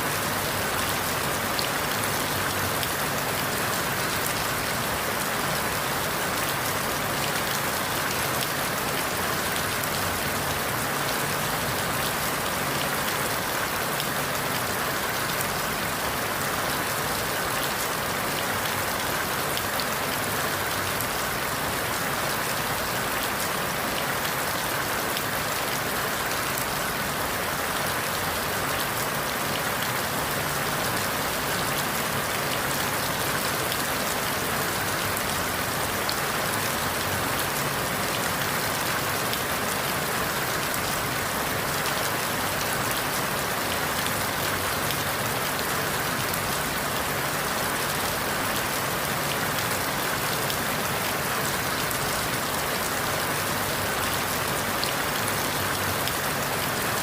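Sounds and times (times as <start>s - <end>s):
rain falling through leaves: 0.0s - 57.0s.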